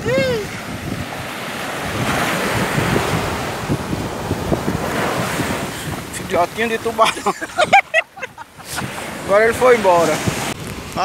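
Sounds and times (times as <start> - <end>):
ocean surf on beach: 0.0 - 11.0
wind rumbling on microphone: 0.0 - 11.0.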